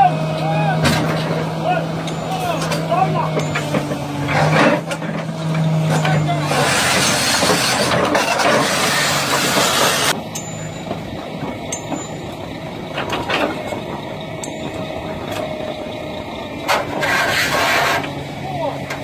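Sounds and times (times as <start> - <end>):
excavator engine and hydraulics: 0.0 - 19.0.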